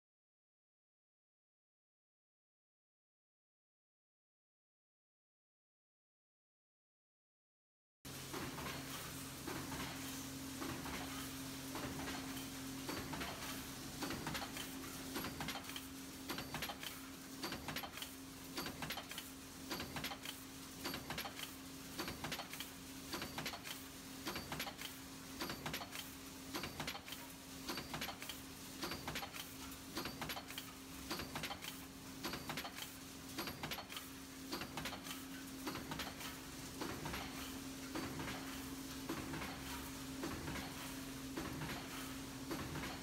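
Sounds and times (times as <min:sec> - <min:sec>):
press clattering knocks and clicks: 0:08.3 - 0:43.0.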